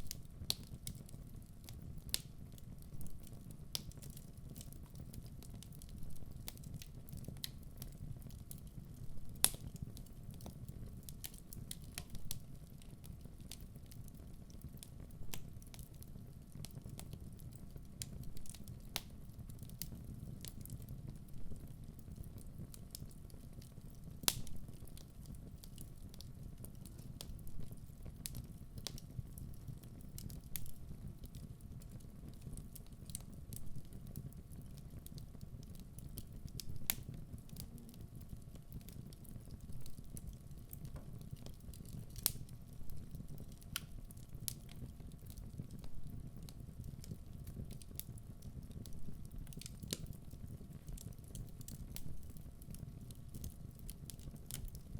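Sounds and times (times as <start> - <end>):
fire rumbling: 0.0 - 54.9
logs crackling and popping: 0.0 - 54.9.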